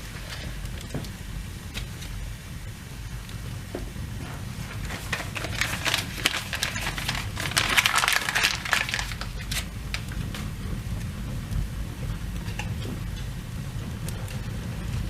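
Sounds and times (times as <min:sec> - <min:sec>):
kindling fire crackling: 0:00.0 - 0:15.0
steady low hum: 0:00.0 - 0:15.0.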